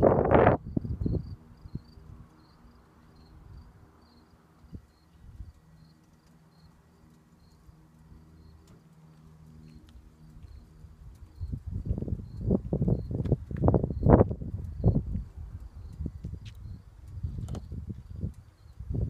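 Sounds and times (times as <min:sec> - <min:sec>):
faint aircraft piston engine hum: 0:00.1 - 0:19.0.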